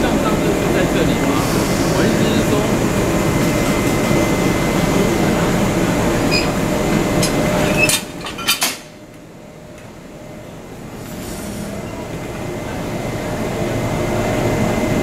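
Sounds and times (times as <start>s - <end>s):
loud mechanical train noise: 0.0s - 15.0s.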